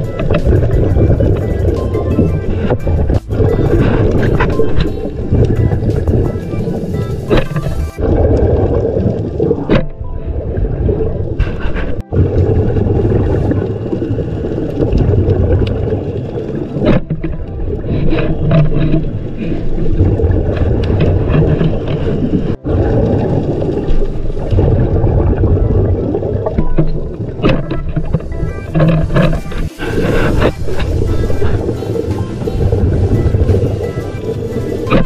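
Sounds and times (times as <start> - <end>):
faint underwater clicks and crackles: 0.0 - 35.0
muffled underwater rumble: 0.0 - 35.0.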